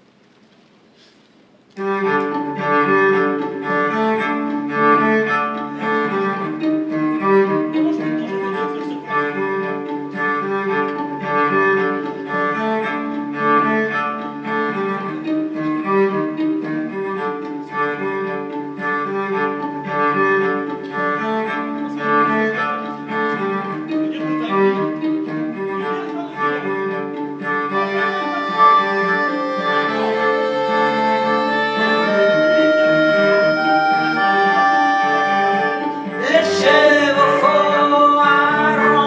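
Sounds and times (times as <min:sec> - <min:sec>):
cello and violin music: 0:01.7 - 0:39.0.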